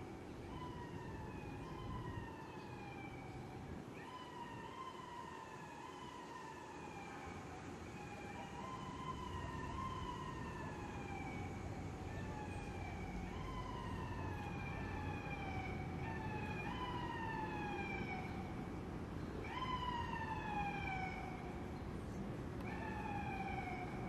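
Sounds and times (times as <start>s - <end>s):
emergency siren wailing: 0.0s - 24.0s.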